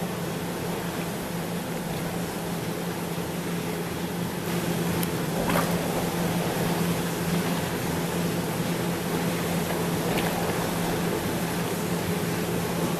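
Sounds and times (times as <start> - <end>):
pump humming: 0.0 - 12.9.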